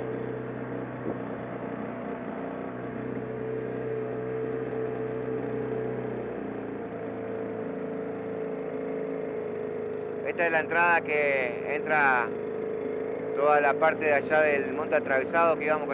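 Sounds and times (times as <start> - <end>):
outboard motor running: 0.0 - 15.9.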